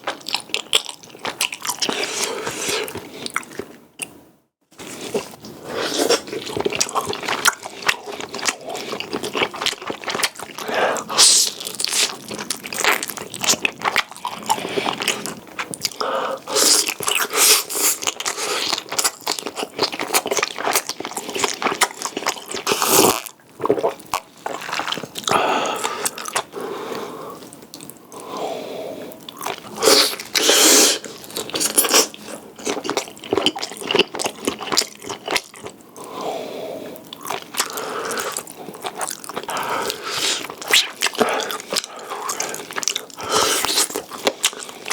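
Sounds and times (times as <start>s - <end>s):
person chewing crunchy food: 0.0s - 4.2s, 4.8s - 44.9s.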